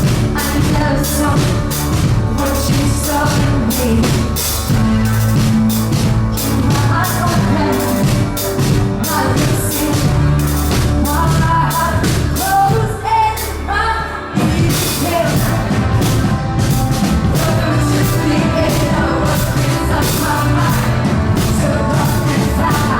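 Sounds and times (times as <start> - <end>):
live pop-rock band with singer: 0.0 - 22.9.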